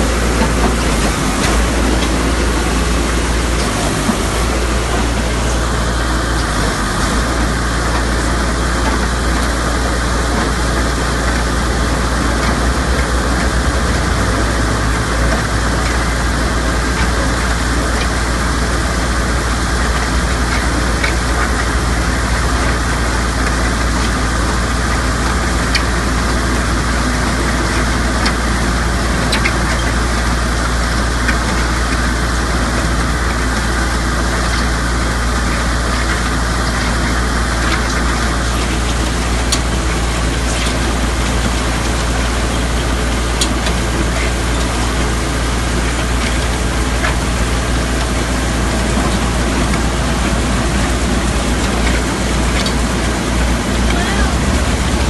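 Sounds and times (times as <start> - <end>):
machinery noise: 0.0 - 55.0
truck engine droning: 0.0 - 55.0.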